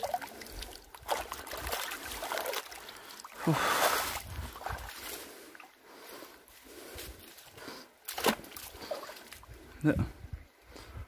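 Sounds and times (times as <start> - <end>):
feet wading splashing water: 0.0 - 9.6.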